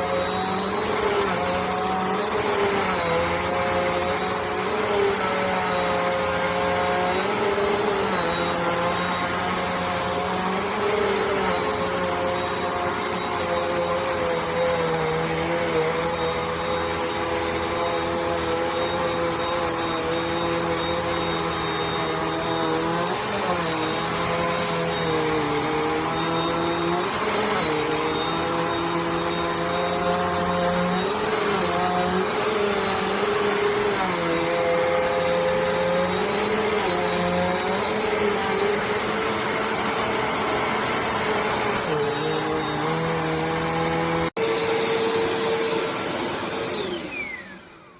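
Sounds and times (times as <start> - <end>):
upright vacuum motor whine: 0.0 - 47.9.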